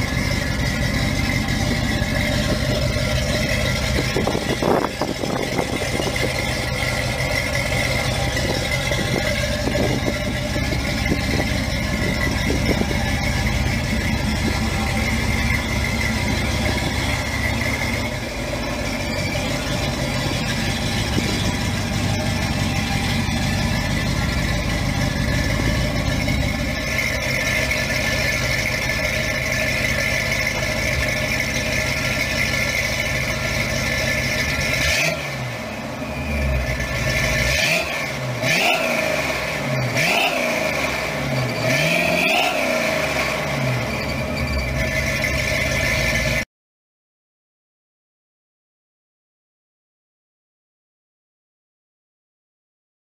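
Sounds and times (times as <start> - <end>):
car engine running: 0.0 - 46.4
engine revving blips: 0.0 - 46.5.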